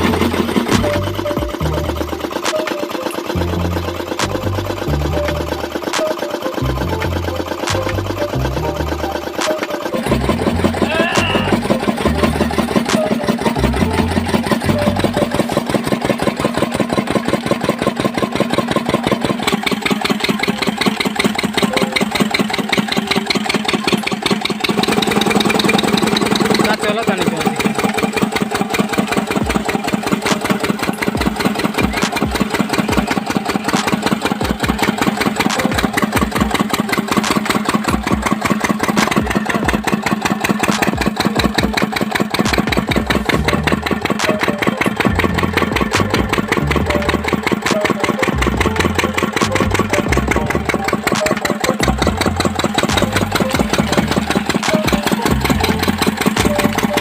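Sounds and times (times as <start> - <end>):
stationary diesel engine running: 0.0 - 57.0.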